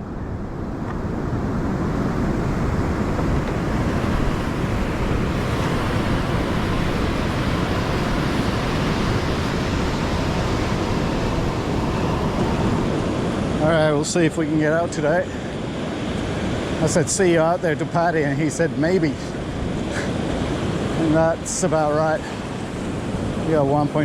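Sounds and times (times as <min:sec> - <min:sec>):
surf breaking on beach: 0:00.0 - 0:24.0
wind on microphone: 0:00.0 - 0:24.0.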